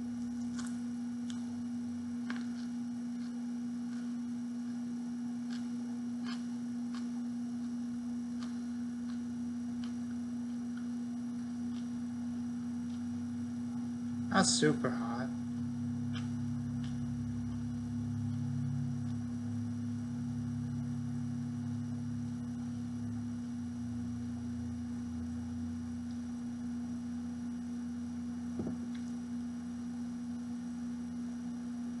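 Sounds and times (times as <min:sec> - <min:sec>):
steady hum with held tone: 0:00.0 - 0:32.0.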